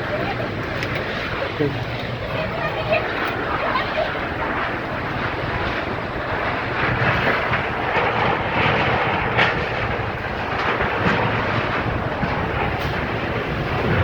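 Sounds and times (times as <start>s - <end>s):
gusty wind blowing: 0.0s - 14.0s.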